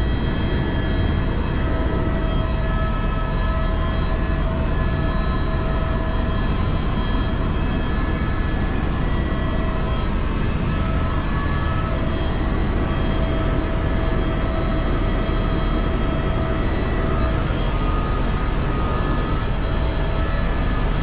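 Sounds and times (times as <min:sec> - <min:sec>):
helicopter rotor and engine rumble: 0:00.0 - 0:21.0.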